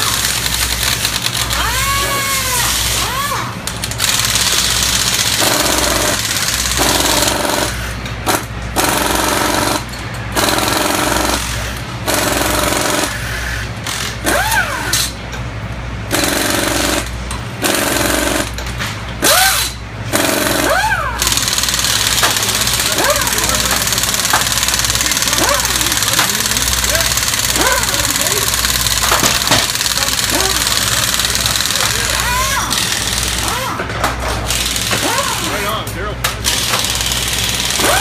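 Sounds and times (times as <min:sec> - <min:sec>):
pneumatic impact wrenches rattling: 0:00.0 - 0:15.5, 0:16.1 - 0:38.0.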